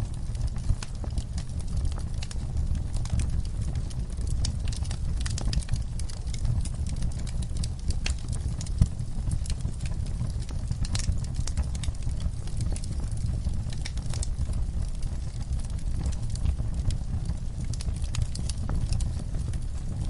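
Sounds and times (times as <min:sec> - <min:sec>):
low rumble of flames: 0:00.0 - 0:20.0
wood fire crackling: 0:00.0 - 0:20.0.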